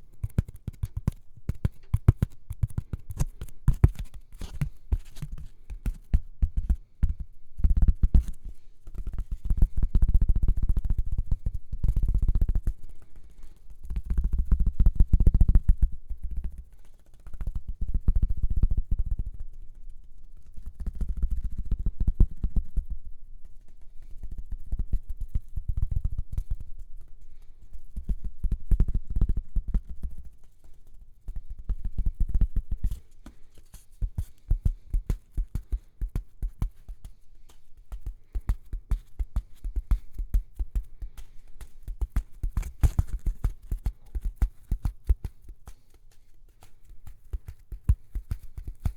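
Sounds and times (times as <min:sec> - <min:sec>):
rapid tapping on microphone: 0:00.0 - 0:19.5, 0:28.0 - 0:48.9.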